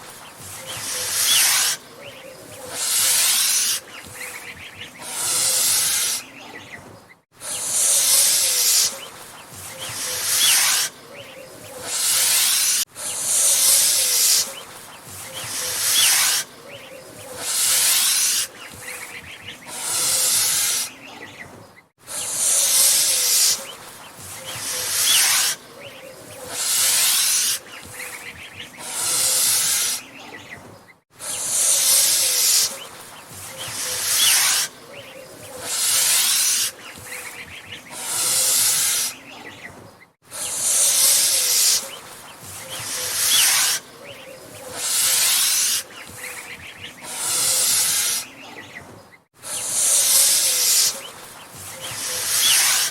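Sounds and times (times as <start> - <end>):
goose hissing: 0.0 - 6.6, 7.4 - 21.3, 22.0 - 30.3, 31.2 - 39.5, 40.3 - 48.6, 49.4 - 52.9.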